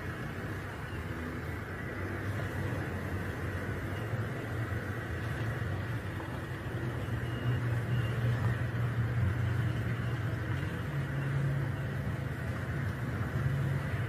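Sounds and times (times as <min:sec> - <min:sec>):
trucks driving past: 0:00.0 - 0:14.0.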